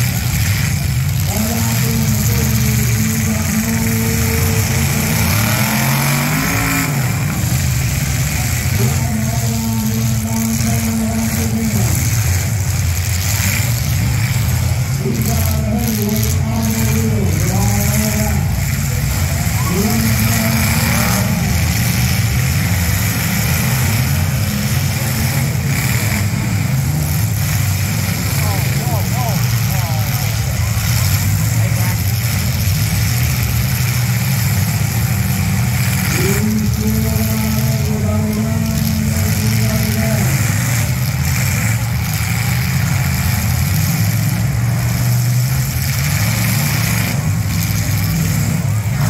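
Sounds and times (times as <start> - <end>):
car engines rumbling: 0.0 - 49.0.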